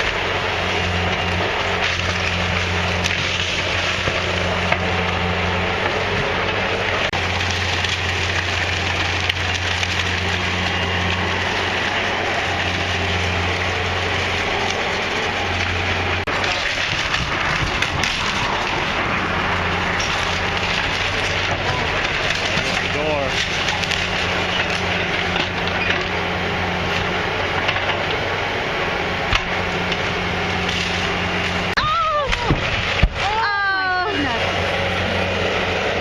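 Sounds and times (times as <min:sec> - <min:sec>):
steady low drone: 0:00.0 - 0:36.0
wood cracking and splintering: 0:00.0 - 0:36.0.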